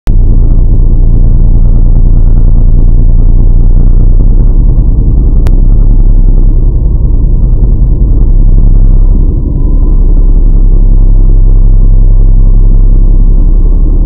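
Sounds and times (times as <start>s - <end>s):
loud deep car engine running: 0.1s - 14.0s.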